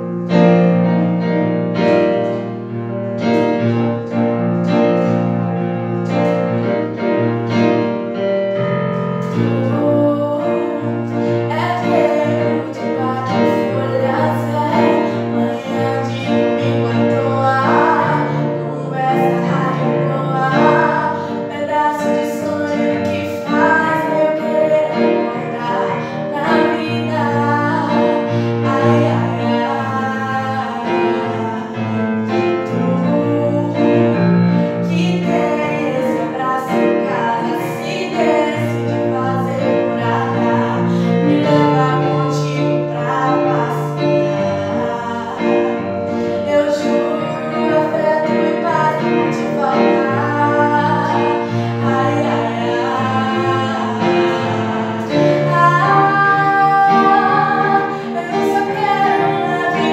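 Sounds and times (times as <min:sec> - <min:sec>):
digital piano: 0:00.0 - 0:59.9
woman singing slow song: 0:09.2 - 0:59.9.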